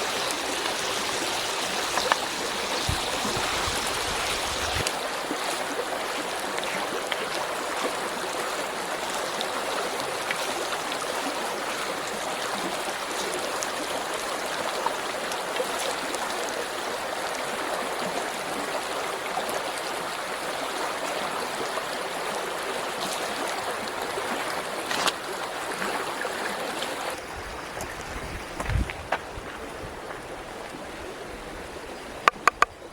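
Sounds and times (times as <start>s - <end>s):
stream rushing: 0.0s - 32.9s.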